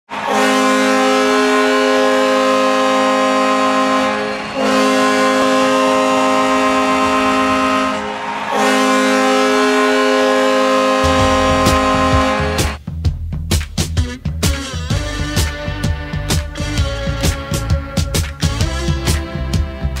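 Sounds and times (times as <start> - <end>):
goal horn blasts: 0.1 - 12.8, 14.0 - 19.8.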